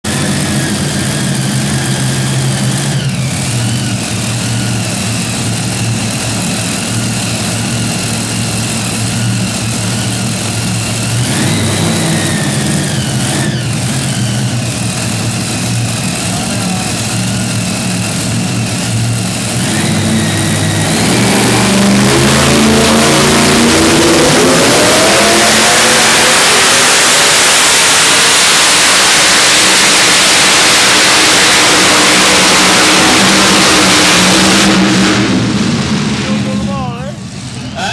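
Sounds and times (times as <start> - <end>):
racing tractor engine revving: 0.0 - 37.9.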